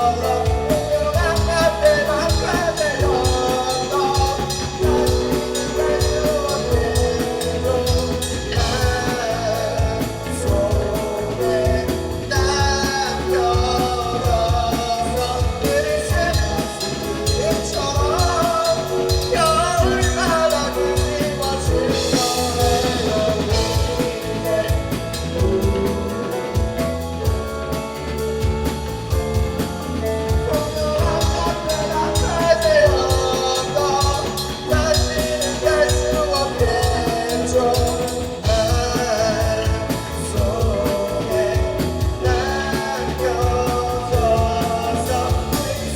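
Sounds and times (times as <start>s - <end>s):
person singing: 0.0s - 45.9s
rock band playing: 0.0s - 45.9s.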